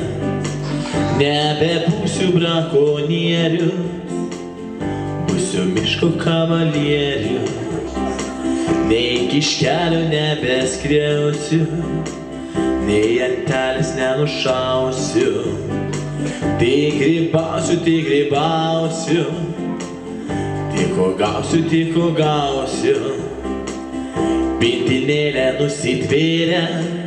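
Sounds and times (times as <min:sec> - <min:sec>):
instrumental accompaniment: 0:00.0 - 0:27.0
man singing: 0:00.0 - 0:27.0.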